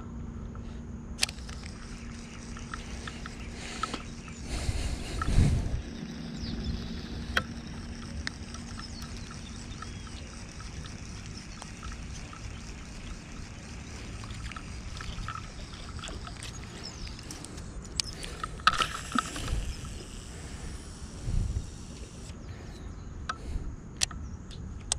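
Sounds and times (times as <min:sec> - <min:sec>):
steady low rumble: 0:00.0 - 0:24.9
faint scattered ticks: 0:00.6 - 0:22.7
fishing reel clicks and rustling: 0:01.2 - 0:22.4.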